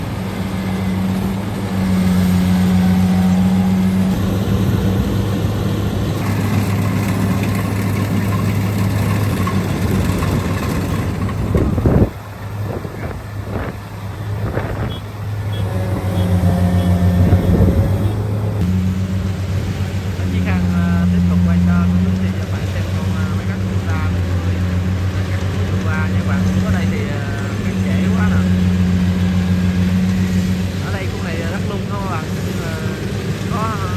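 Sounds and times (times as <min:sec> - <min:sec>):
diesel engine running under load: 0:00.0 - 0:33.9.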